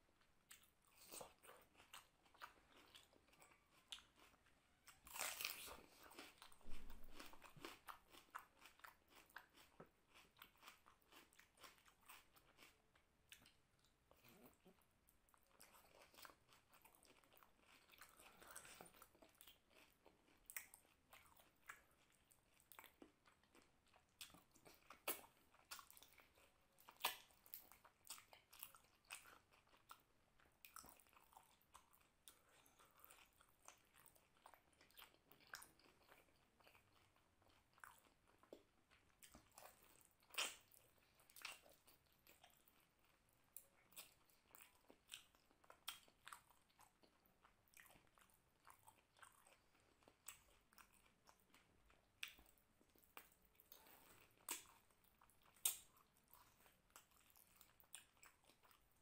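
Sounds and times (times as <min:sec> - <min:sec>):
man chewing with lip smacks: 0:00.4 - 0:59.0.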